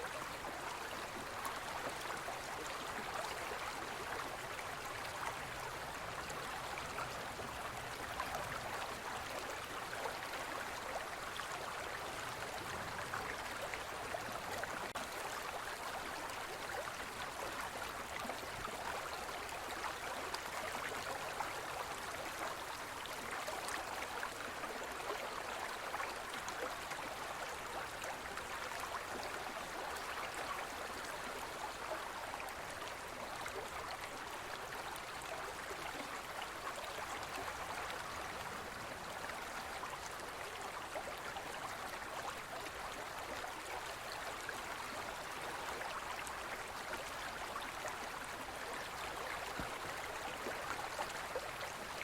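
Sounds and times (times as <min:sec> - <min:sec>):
river flowing over stones: 0:00.0 - 0:52.0.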